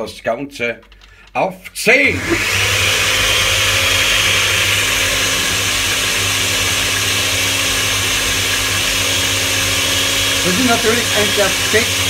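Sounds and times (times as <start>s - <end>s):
blender running: 2.0s - 12.0s.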